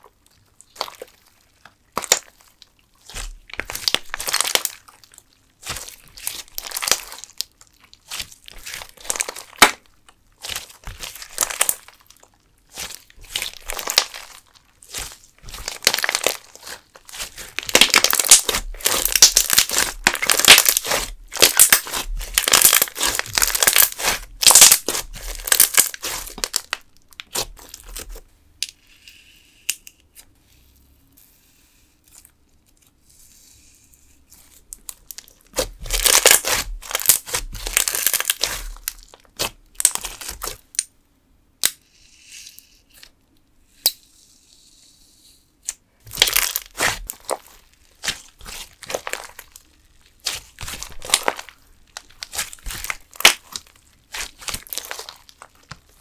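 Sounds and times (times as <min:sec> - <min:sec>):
slime squishing with sticky pops: 0:00.0 - 0:28.2, 0:34.3 - 0:40.9, 0:45.6 - 0:56.0.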